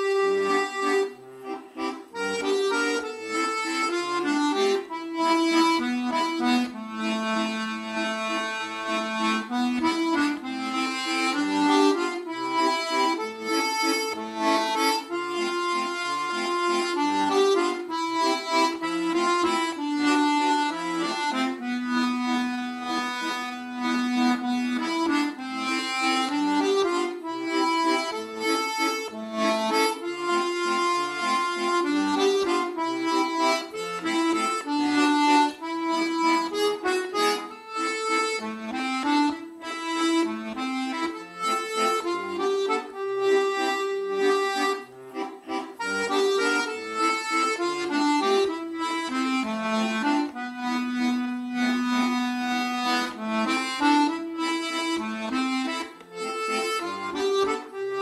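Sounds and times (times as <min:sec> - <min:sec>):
instrumental background music: 0:00.0 - 0:58.0.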